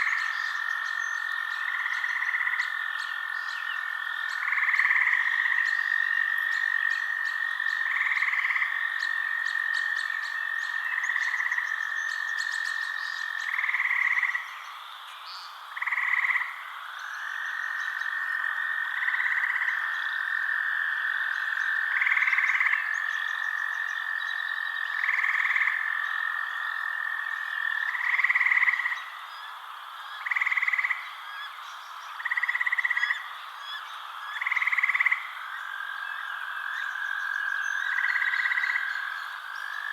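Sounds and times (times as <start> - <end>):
frogs and insects trilling: 0.0 - 39.9
louder frog calls: 0.0 - 39.9.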